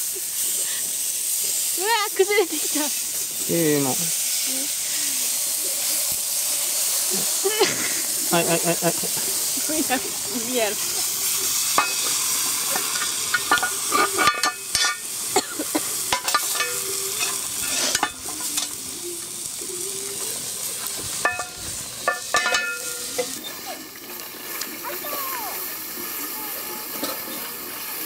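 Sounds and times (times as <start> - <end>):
fire hissing and crackling: 0.0 - 28.0.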